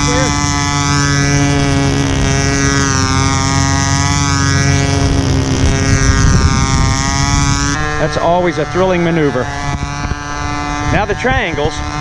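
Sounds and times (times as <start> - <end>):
low wind rumble on microphone: 0.0 - 12.0
model plane engine buzzing: 0.0 - 12.0.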